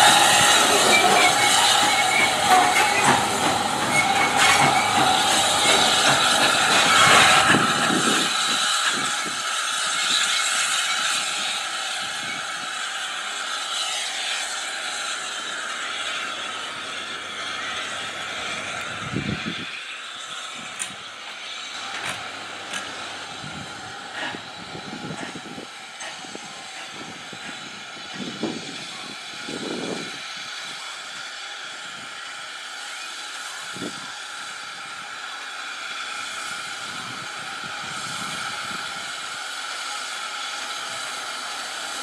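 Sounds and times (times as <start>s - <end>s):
steam locomotive hissing: 0.0s - 42.0s.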